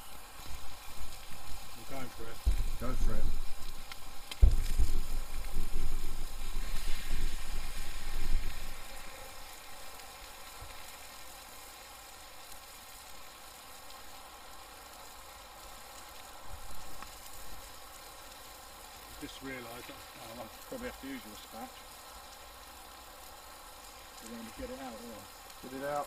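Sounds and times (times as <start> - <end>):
food sizzling in frying pans: 0.0 - 26.0.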